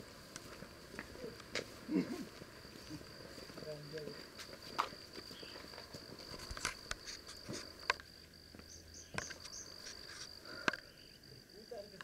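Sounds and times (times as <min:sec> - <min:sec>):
footsteps on dirt path: 0:00.0 - 0:10.4
insect chirping: 0:00.0 - 0:12.0.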